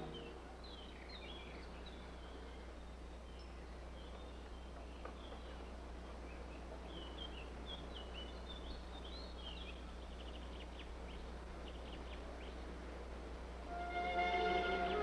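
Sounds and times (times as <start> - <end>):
small birds chirping: 0.0 - 13.0
film soundtrack hum and hiss: 0.0 - 15.0.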